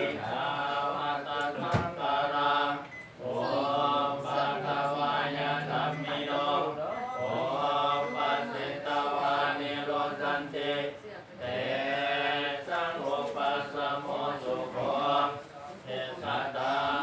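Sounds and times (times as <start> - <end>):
group chanting: 0.0 - 17.0.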